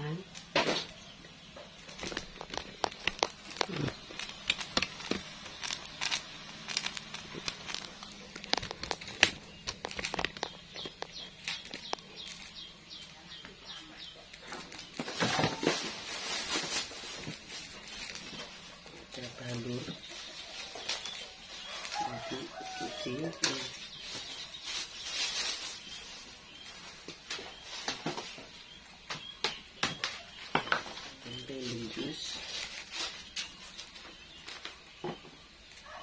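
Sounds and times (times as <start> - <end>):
plastic bag rustling: 1.7 - 13.4, 14.4 - 28.6, 30.8 - 34.7.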